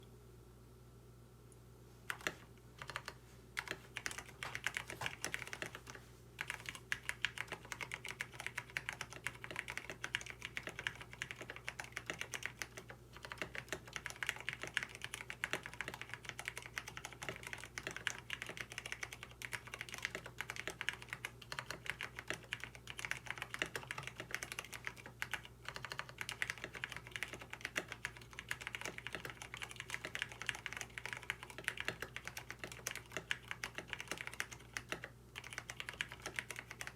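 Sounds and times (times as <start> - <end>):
faint low hum: 0.0 - 36.9
typing on mechanical keyboard: 2.1 - 36.9.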